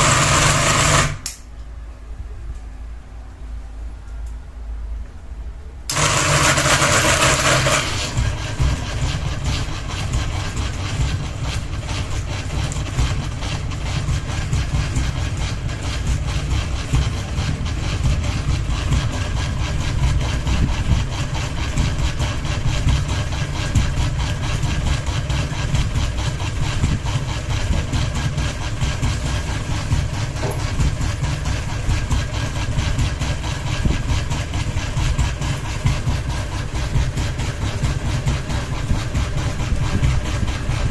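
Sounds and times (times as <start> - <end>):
unbalanced ceiling fan rattling: 5.9 - 40.9.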